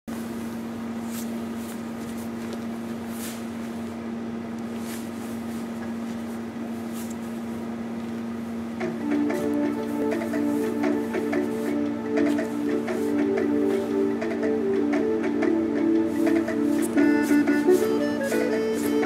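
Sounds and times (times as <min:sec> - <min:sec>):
indoor hall hum: 0:00.1 - 0:19.0.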